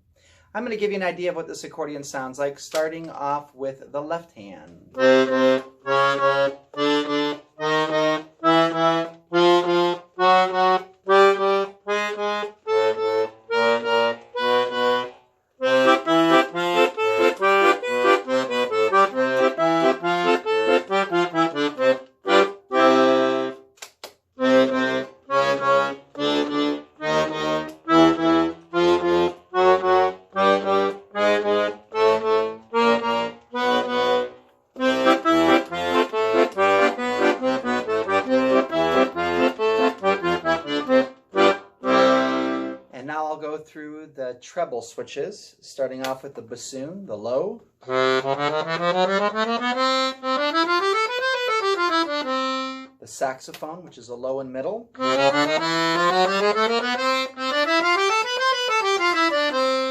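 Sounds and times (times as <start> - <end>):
accordion bass and chord buttons: 0.7 - 43.7, 47.4 - 53.9, 55.0 - 59.9.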